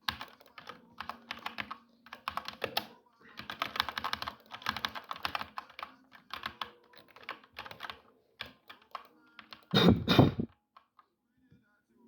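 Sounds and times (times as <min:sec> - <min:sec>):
computer keyboard typing: 0:00.0 - 0:09.9.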